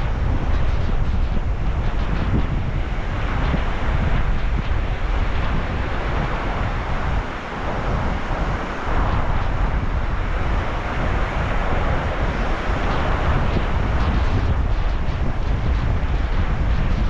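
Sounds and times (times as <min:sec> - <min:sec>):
sea waves washing in: 0:00.0 - 0:17.0
wind buffeting microphone: 0:00.0 - 0:17.0.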